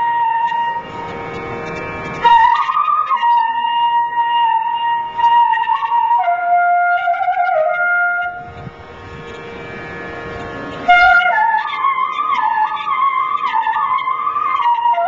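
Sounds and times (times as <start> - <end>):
flute long held notes: 0.0 - 8.6, 10.8 - 15.0
steady drone: 0.0 - 15.0.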